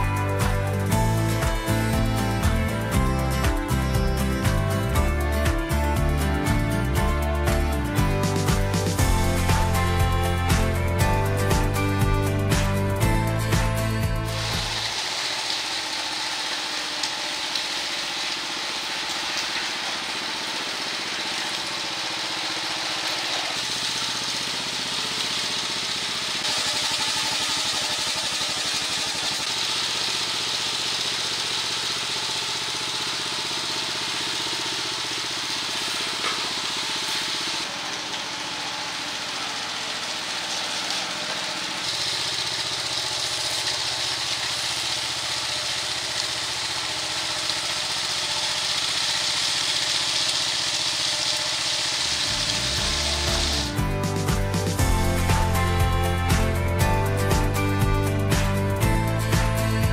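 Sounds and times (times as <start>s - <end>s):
small gas engine running: 0.0s - 59.9s.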